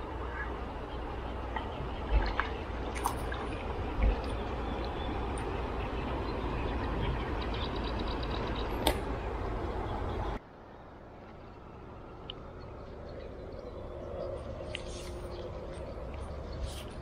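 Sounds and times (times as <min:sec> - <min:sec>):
outdoor rushing rumble: 0:00.0 - 0:17.0.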